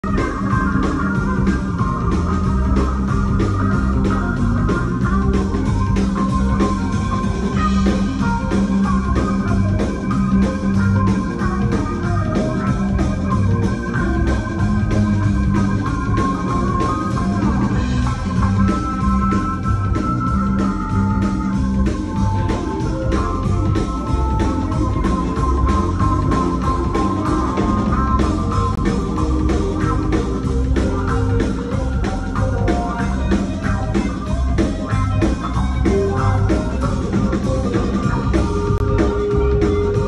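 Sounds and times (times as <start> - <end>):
live rock band playing: 0.0 - 40.0
organ-toned keyboard: 0.0 - 40.0.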